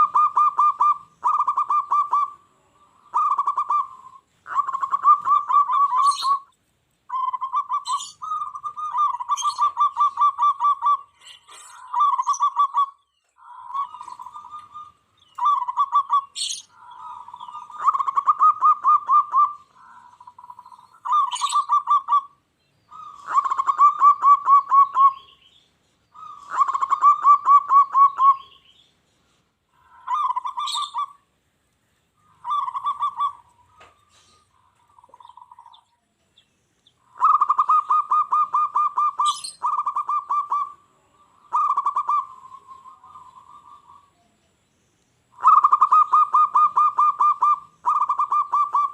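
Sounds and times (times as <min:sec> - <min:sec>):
dove cooing: 0:00.0 - 0:06.5, 0:07.1 - 0:25.4, 0:26.1 - 0:28.7, 0:29.8 - 0:31.3, 0:32.2 - 0:35.9, 0:37.0 - 0:44.4, 0:45.3 - 0:48.9
high chirps: 0:00.0 - 0:29.0, 0:29.7 - 0:31.4, 0:32.1 - 0:44.2, 0:45.3 - 0:48.9.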